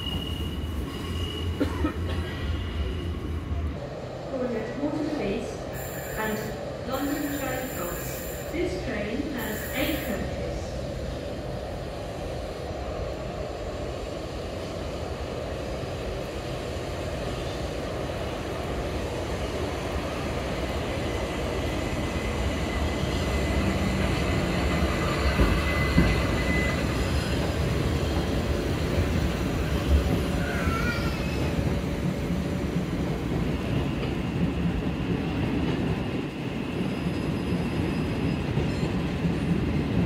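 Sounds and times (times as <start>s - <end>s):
electric train rumbling: 0.0s - 40.0s.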